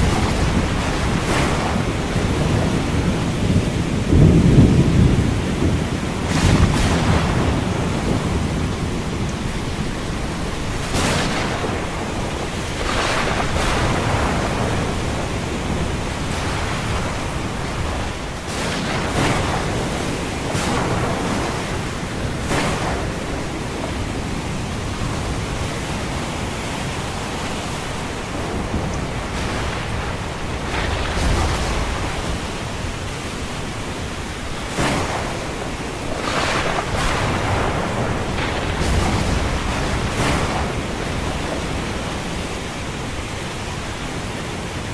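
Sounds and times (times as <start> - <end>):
low rumble of waves: 0.0 - 44.9
ocean surf washing: 0.0 - 44.9.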